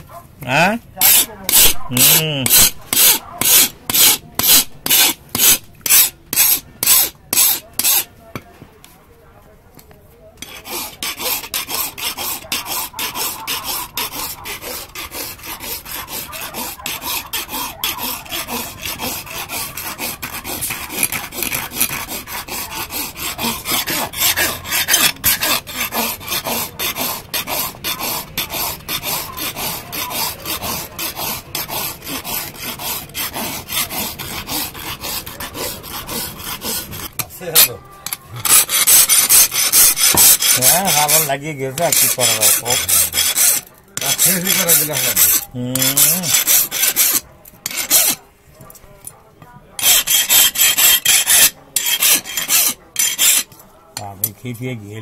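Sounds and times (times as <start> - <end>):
file rasping on knife blade: 1.0 - 8.1, 10.4 - 48.2, 49.8 - 54.4.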